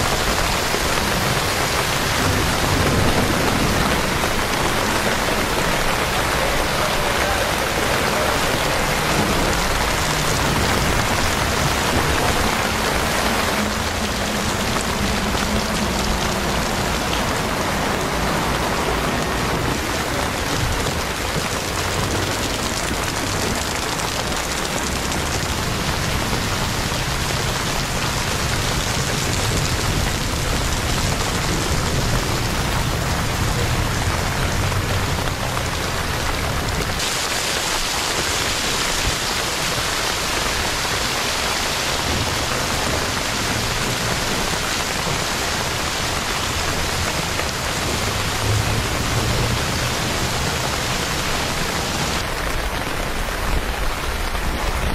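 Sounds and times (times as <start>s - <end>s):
heavy rain on a street: 0.0s - 54.9s.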